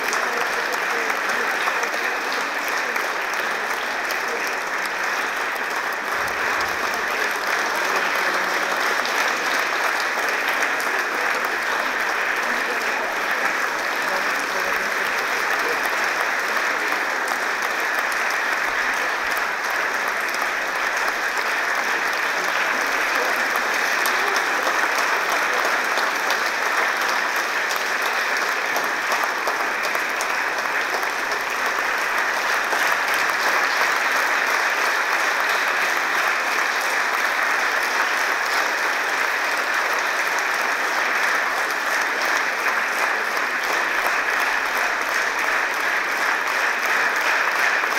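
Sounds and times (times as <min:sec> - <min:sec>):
audience applauding: 0:00.0 - 0:47.9.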